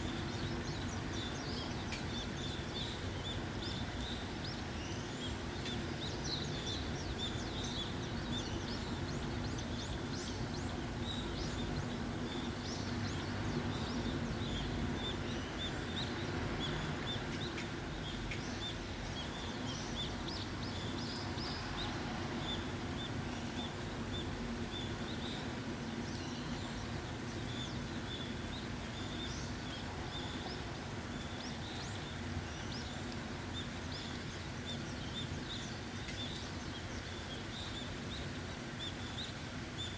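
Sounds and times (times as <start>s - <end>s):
small birds chirping: 0.0s - 39.9s
steady rainfall: 0.0s - 39.9s.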